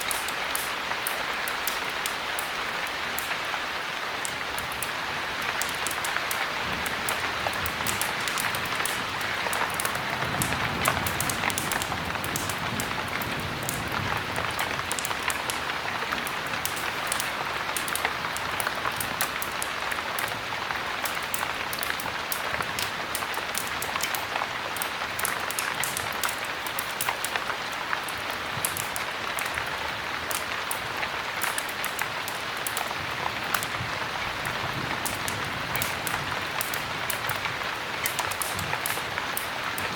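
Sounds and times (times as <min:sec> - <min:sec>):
heavy rain hiss: 0:00.0 - 0:39.9
wood fire crackling: 0:00.0 - 0:39.9.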